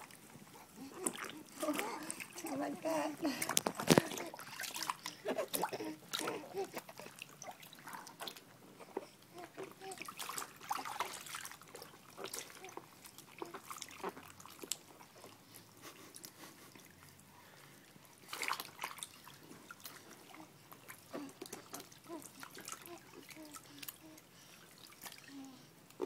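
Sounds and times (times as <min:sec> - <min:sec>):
bath water splashing: 0:00.0 - 0:25.3.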